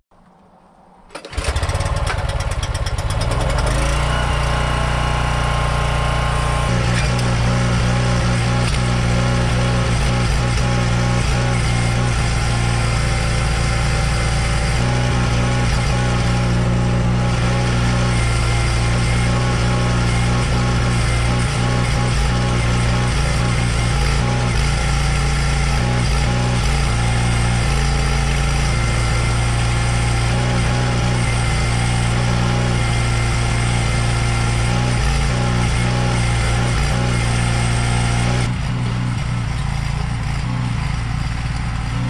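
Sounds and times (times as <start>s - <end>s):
small engine running: 1.1s - 42.0s.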